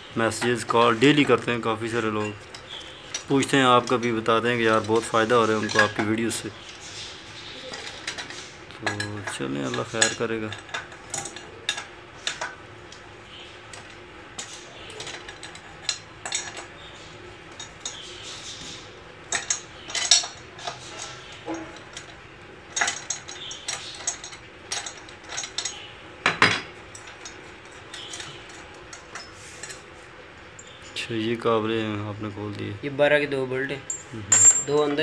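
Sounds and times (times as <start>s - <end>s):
metal tools clinking on engine: 0.2s - 29.9s, 30.5s - 31.0s, 33.7s - 35.0s.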